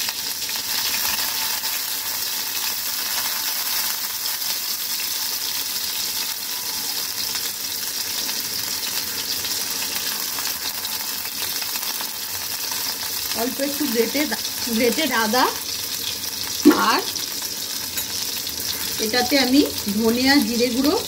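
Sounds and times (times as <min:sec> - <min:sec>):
oil sizzling in frying pan: 0:00.0 - 0:21.0.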